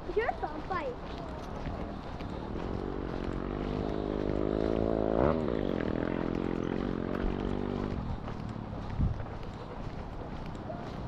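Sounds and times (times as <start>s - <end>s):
motor vehicle passing by: 0.7s - 11.0s.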